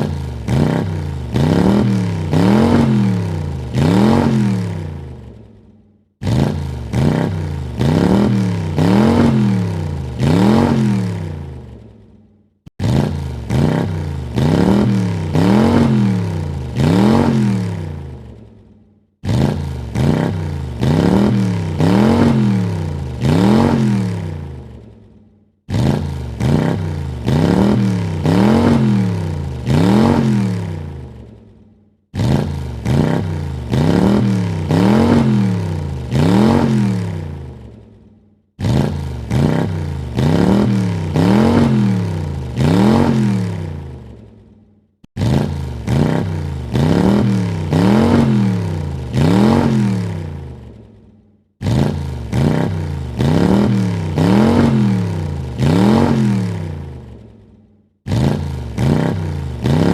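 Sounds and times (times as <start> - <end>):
car engine revving: 0.0 - 5.4, 6.2 - 11.9, 12.7 - 18.4, 19.2 - 24.9, 25.7 - 31.4, 32.1 - 37.8, 38.6 - 44.2, 45.1 - 50.8, 51.6 - 57.3, 58.1 - 59.9.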